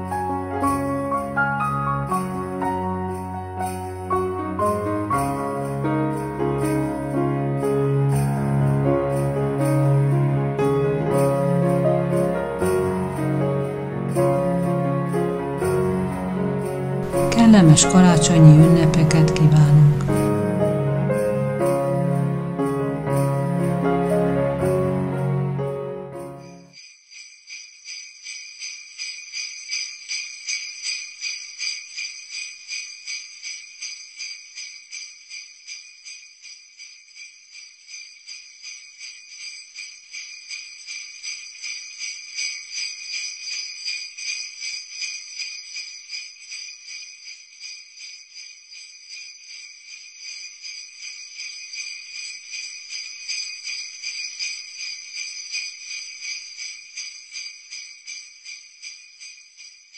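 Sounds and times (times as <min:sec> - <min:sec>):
sleigh bells jingling: 0:00.0 - 0:25.4, 0:26.2 - 0:59.9.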